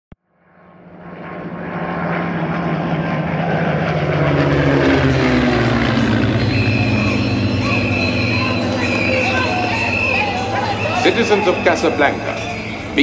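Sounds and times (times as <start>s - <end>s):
propeller aircraft engine drone: 0.2s - 13.0s.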